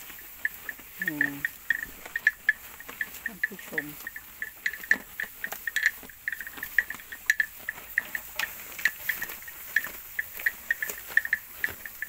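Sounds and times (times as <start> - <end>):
cattle chewing grass: 0.0 - 12.0.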